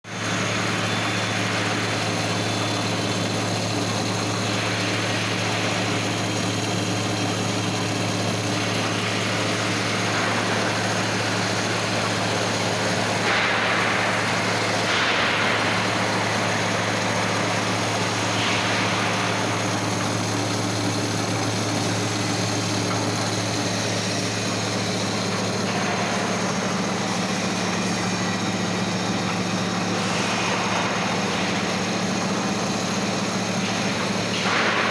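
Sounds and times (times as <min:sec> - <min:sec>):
milling machine motor hum: 0:00.1 - 0:34.9.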